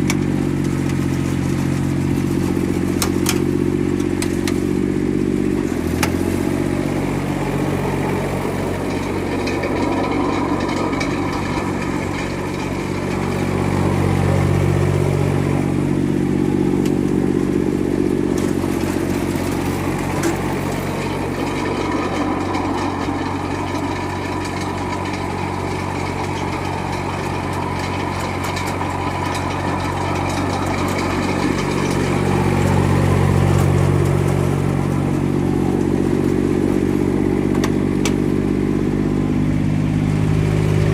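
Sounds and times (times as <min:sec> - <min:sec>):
snow blower diesel engine running: 0:00.0 - 0:40.9.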